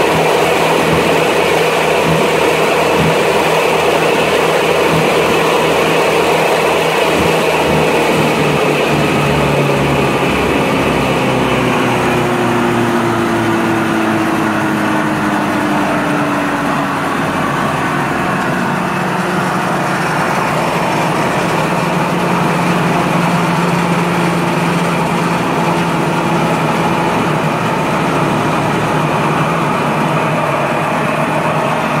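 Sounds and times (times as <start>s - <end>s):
wood chipper running: 0.0s - 32.0s.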